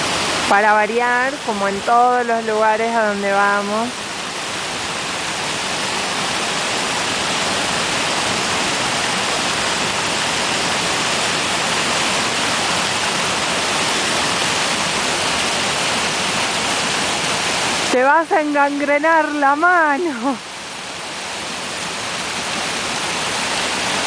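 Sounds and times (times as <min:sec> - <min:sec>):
stream rushing over boulders: 0:00.0 - 0:24.0.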